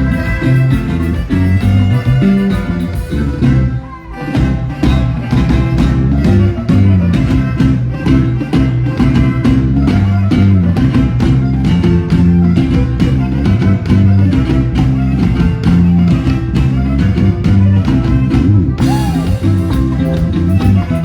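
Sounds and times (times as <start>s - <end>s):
band playing upbeat music: 0.0s - 21.0s.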